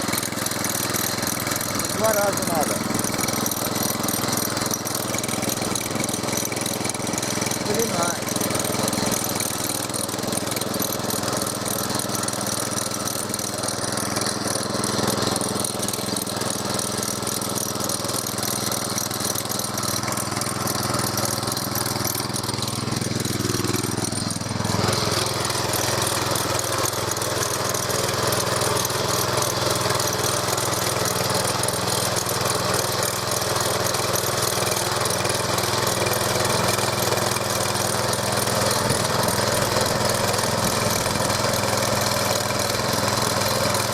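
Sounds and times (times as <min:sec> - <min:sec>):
cultivator tines tilling ground: 0:00.0 - 0:43.9
tractor engine labouring: 0:00.0 - 0:43.9.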